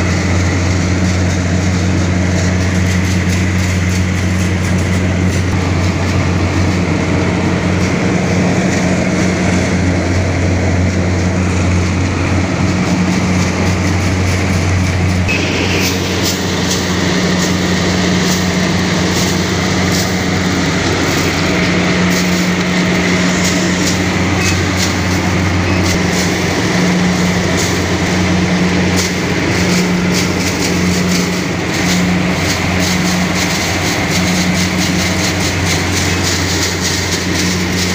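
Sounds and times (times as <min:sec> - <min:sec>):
dense machinery rattle: 0:00.0 - 0:37.9
diesel engine drone: 0:00.0 - 0:37.9.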